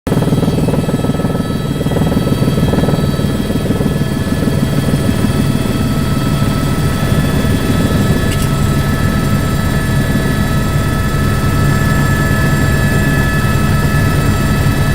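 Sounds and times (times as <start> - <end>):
helicopter rotor chopping: 0.1 - 14.9.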